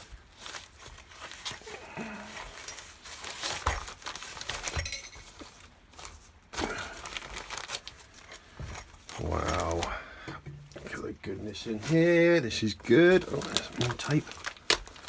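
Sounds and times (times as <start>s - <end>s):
packaging rustling: 0.0s - 10.0s, 10.8s - 15.0s.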